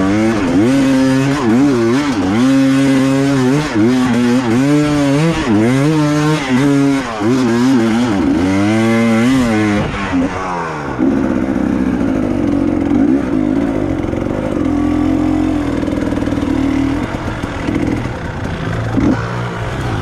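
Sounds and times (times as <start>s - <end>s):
motorcycle engine revving hard: 0.0s - 20.0s.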